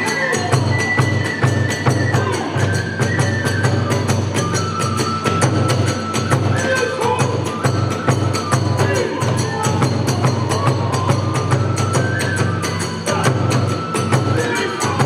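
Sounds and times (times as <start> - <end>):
drums and hand cymbals beat: 0.0 - 15.0
wavering flute melody: 0.0 - 15.0.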